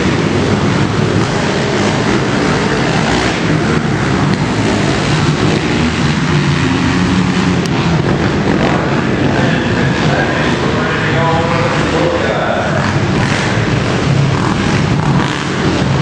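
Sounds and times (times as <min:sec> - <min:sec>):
racing quad engines: 0:00.0 - 0:16.0.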